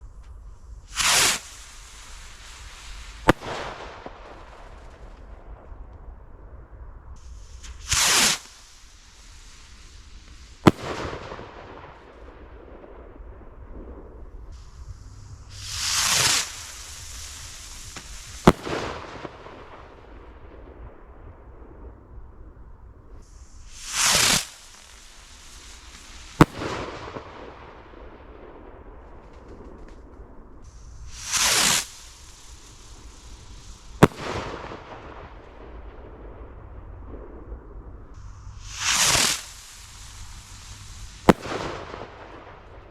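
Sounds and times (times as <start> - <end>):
firework rocket whoosh: 0.0 - 42.9
firework bursting bang: 0.8 - 5.9, 7.2 - 22.0, 23.2 - 37.5, 38.2 - 42.9.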